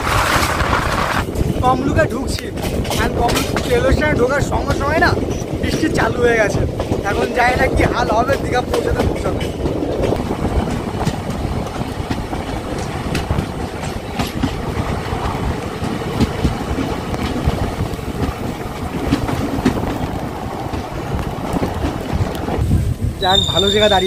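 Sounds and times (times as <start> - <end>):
train rumble: 0.0 - 24.0
wheels clacking over rail joints: 0.0 - 24.0.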